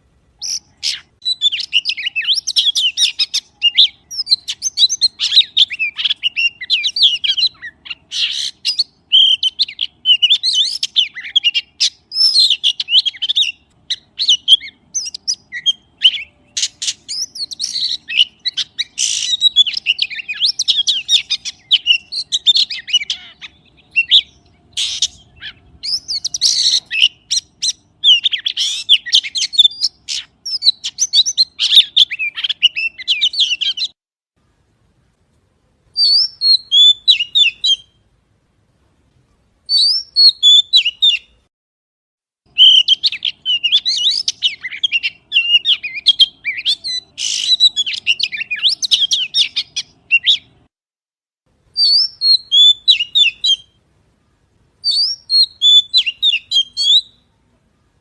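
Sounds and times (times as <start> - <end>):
magpie chirping and whistling: 0.4 - 34.0, 36.0 - 38.0, 39.7 - 41.3, 42.5 - 50.6, 51.8 - 53.8, 54.8 - 57.2.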